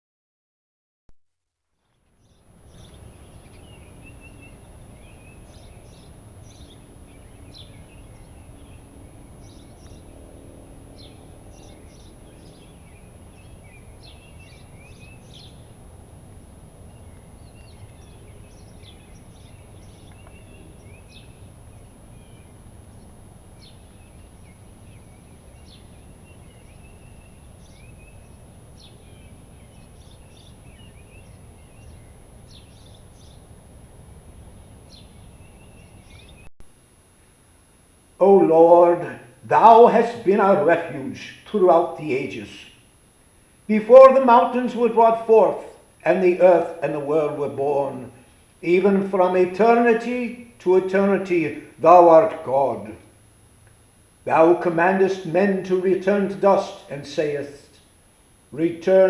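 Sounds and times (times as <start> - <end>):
birds chirping and trilling: 2.2 - 33.6, 34.5 - 36.5, 38.2 - 42.9, 43.7 - 53.0.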